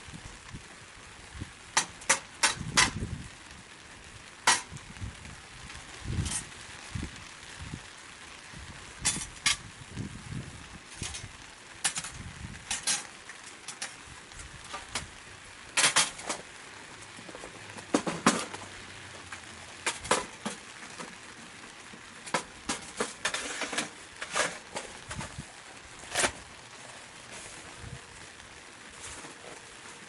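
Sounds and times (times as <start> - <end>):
wood fire crackling: 0.0 - 30.0
sharp pops and cracks: 1.6 - 7.7, 8.3 - 30.0.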